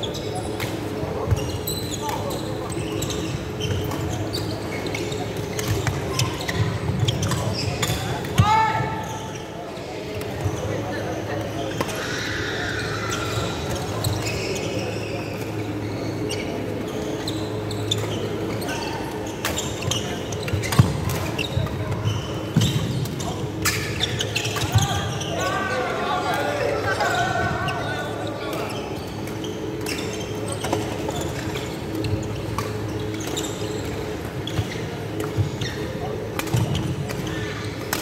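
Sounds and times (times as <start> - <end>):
shoes squeaking on wooden court: 0.0 - 12.2, 12.8 - 38.0.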